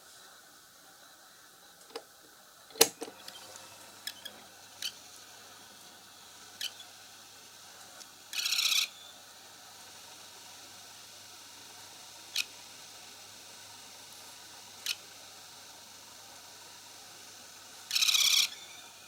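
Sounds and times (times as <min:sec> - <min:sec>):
electric fan motor humming: 0:01.6 - 0:19.0.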